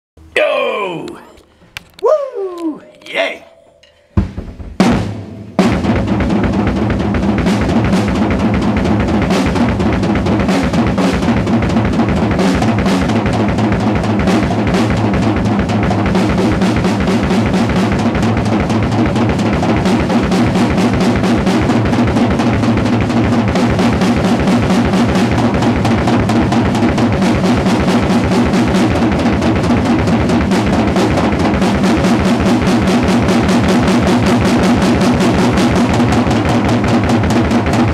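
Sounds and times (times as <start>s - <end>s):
drum kit played with sticks: 0.4s - 37.9s.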